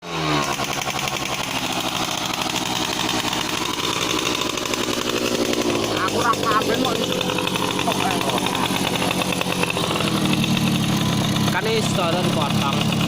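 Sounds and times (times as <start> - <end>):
motorcycle engine idling: 0.2 - 13.0.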